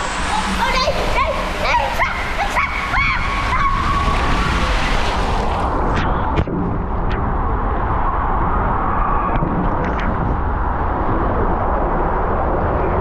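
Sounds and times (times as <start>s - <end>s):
water rushing in slide tube: 0.0s - 13.0s.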